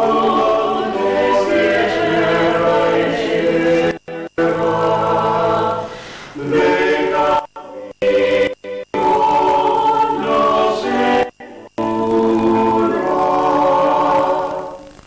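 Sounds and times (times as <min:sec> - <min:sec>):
vocal quartet singing a cappella: 0:00.0 - 0:14.9.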